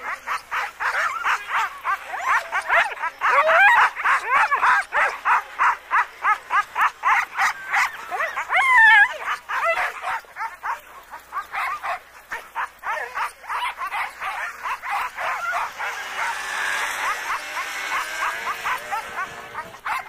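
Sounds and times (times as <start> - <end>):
sled dogs barking and yipping: 0.0 - 20.0.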